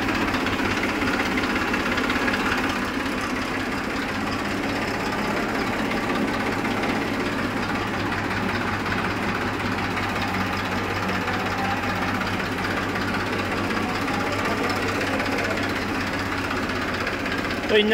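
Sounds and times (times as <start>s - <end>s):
tractor diesel engine idling: 0.0s - 17.9s.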